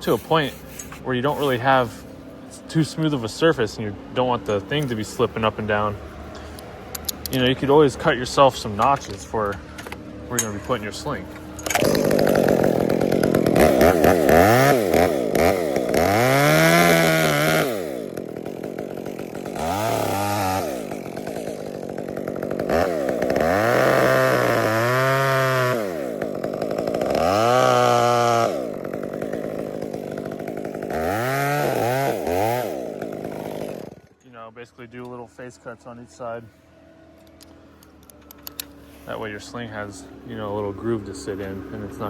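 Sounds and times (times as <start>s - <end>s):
chainsaw revving and cutting: 0.0s - 34.2s, 38.5s - 42.0s.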